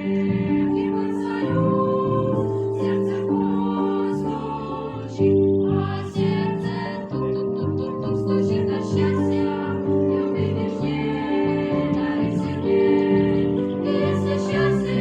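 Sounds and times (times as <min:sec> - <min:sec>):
voices singing with instruments: 0:00.0 - 0:15.0.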